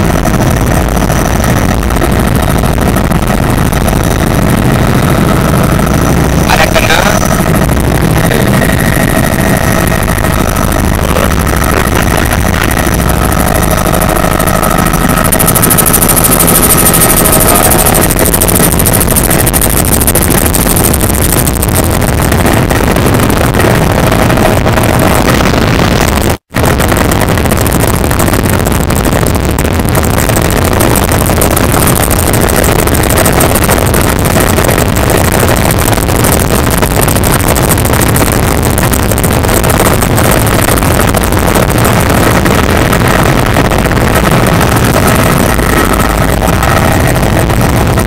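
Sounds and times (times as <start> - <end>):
helicopter engine and rotor: 0.0 - 48.0.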